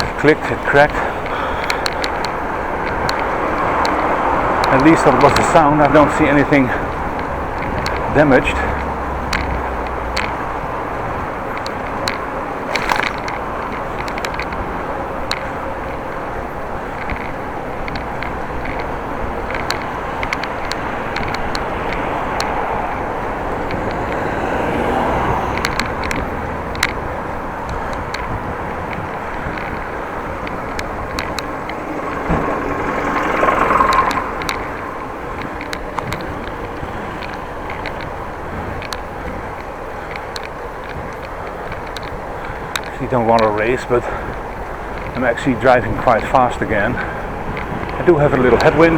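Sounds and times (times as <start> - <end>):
motor vehicle passing: 0.0 - 48.9
small clicks and rattles: 0.0 - 48.9
wind and road noise from bicycle: 0.0 - 48.9.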